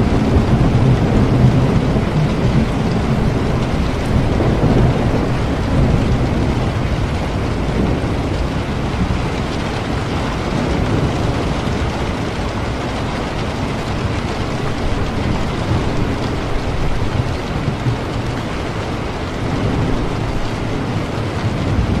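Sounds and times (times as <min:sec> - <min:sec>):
heavy rain: 0:00.0 - 0:22.0
low rumble of thunder: 0:00.0 - 0:22.0.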